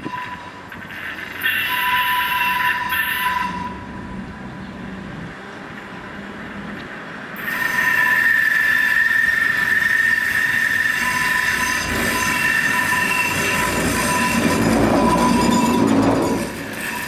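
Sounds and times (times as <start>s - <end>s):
tram wheels squealing: 0.0s - 4.8s, 7.4s - 17.0s
wheels rumbling on rails: 0.0s - 17.0s.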